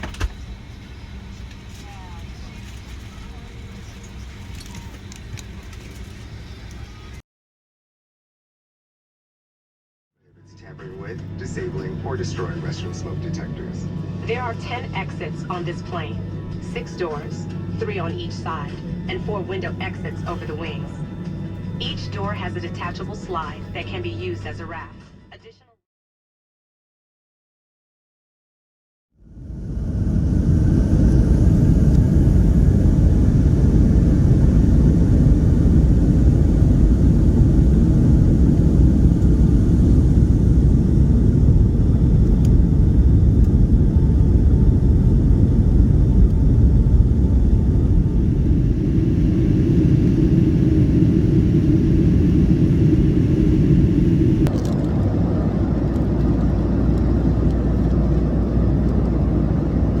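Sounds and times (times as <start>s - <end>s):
jet engine cabin rumble: 0.0s - 7.2s, 10.4s - 24.9s, 29.2s - 60.0s.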